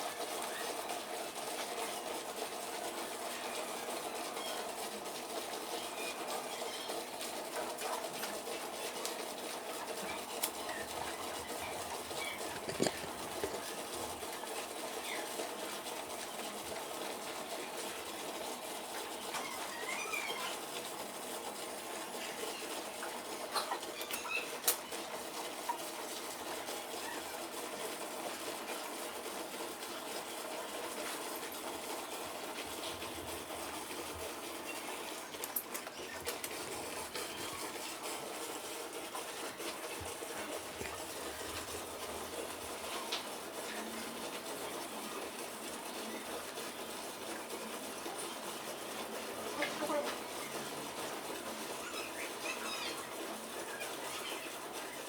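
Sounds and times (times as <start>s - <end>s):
milking machine hum: 0.0s - 55.0s.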